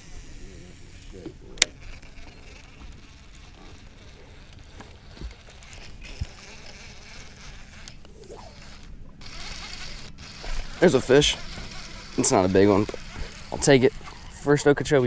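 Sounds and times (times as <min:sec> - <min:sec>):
fishing reel whirring: 0:00.0 - 0:15.0.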